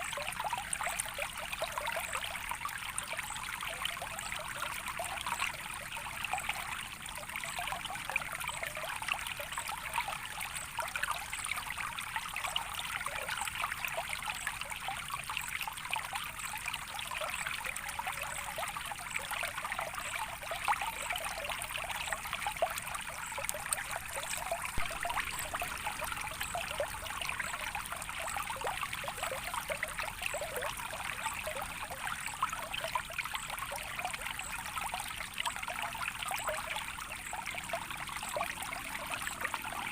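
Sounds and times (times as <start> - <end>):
stream burbling over stones: 0.0 - 39.9.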